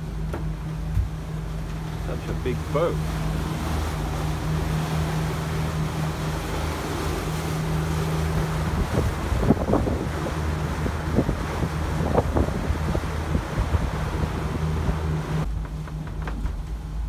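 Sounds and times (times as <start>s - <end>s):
boat engine hum: 0.0s - 17.0s
water rushing past hulls: 0.0s - 17.0s
wind buffeting microphone: 2.5s - 17.0s.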